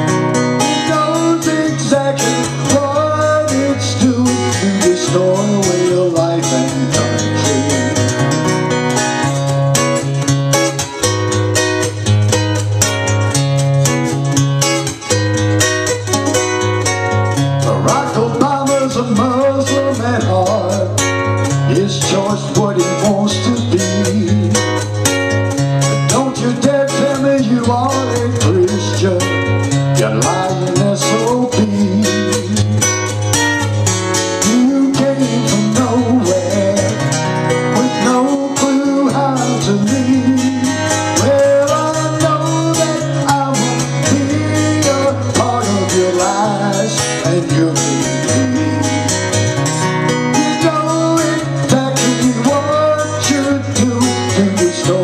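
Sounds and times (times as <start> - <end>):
fingerpicked acoustic guitar: 0.0 - 55.0.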